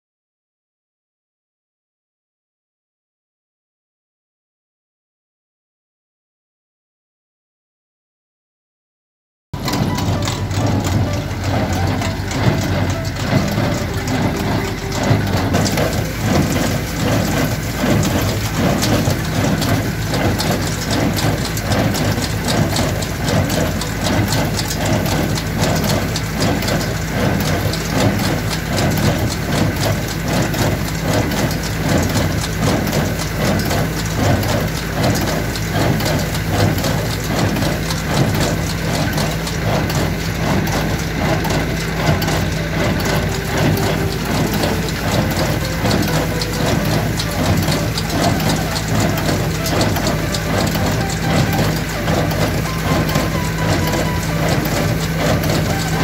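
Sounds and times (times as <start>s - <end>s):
baler mechanical clatter: 9.6s - 56.0s
tractor engine under load: 9.6s - 56.0s.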